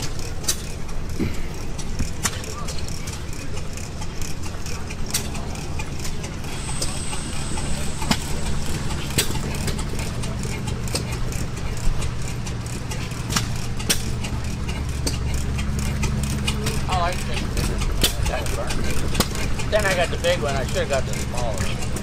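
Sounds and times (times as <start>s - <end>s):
engine drone: 0.0s - 22.0s
engine pops and clicks: 0.0s - 22.0s.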